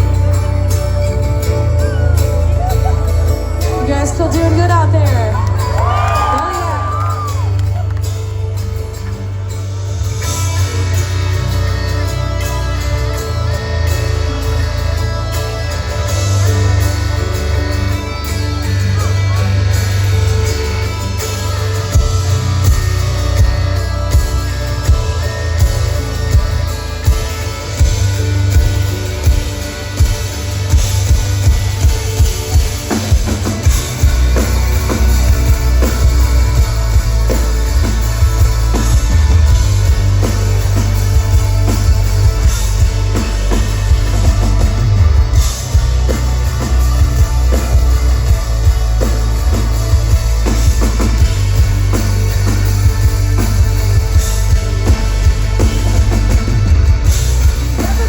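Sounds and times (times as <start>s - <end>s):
live rock band playing: 0.0s - 58.0s
heavy sustained bass: 6.8s - 58.0s.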